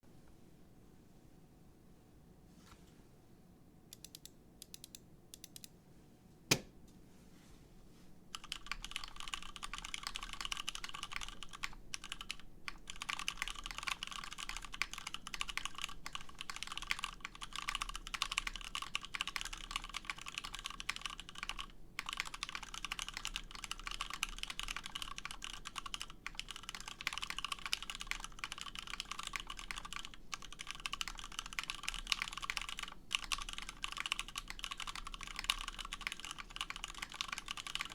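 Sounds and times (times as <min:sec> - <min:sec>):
mechanical keyboard typing: 0:03.9 - 0:05.7, 0:08.3 - 0:37.9.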